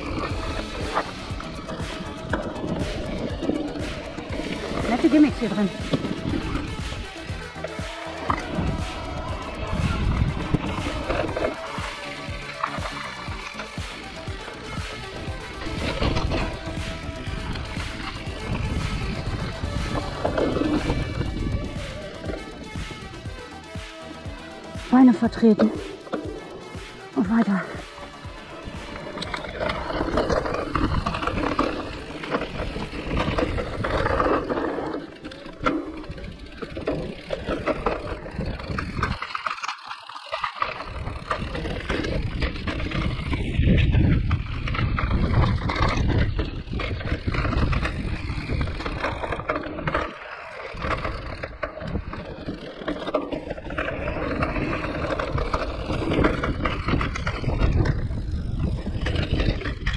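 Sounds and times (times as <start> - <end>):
bike tyre rumble: 0.0 - 59.9.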